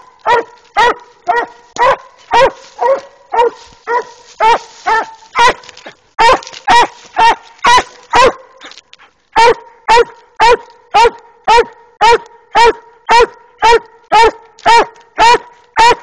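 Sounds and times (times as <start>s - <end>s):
dog barking: 0.0s - 16.0s.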